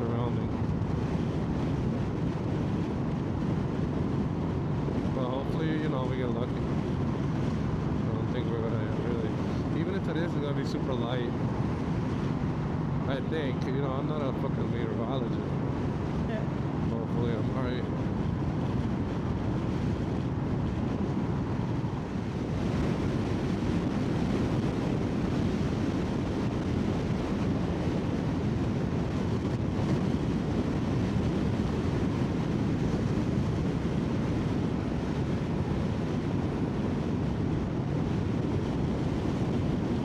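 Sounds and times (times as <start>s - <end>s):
road noise: 0.0s - 40.0s
wind rush on microphone: 0.0s - 40.0s.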